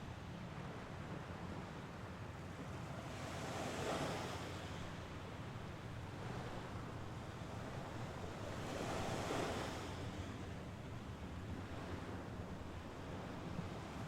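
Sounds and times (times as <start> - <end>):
waves washing onto shore: 2.3 - 14.0.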